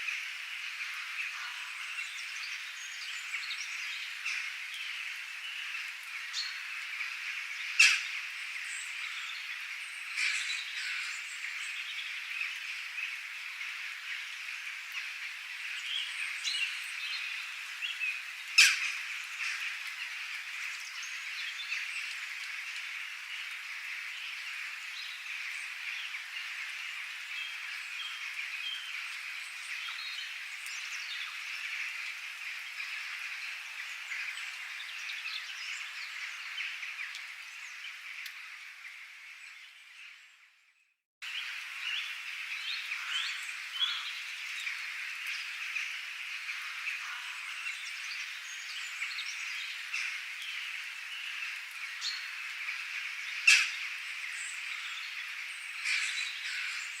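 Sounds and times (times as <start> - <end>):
frogs and insects chorus: 0.0 - 37.2, 41.3 - 57.0.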